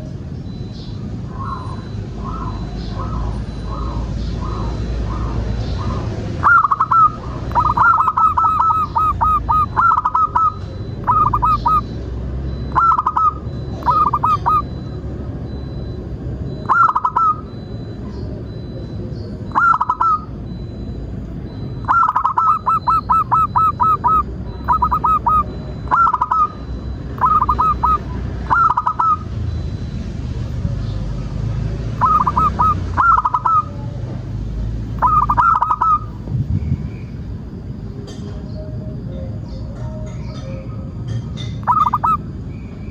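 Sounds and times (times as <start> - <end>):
dove cooing: 0.0 - 30.0, 32.0 - 34.2, 35.0 - 36.2, 38.6 - 42.3.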